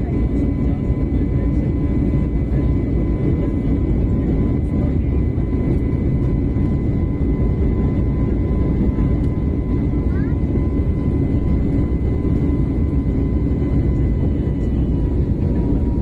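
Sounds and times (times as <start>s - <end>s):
jet engine and airflow rumble: 0.0s - 16.0s.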